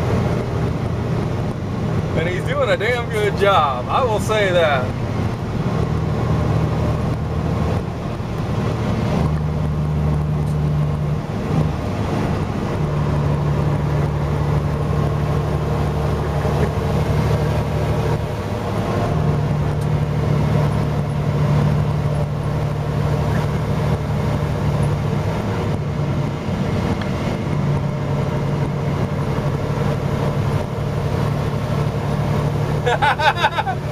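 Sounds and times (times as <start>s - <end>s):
car road noise from inside: 0.0s - 33.9s
low engine drone: 0.0s - 33.9s.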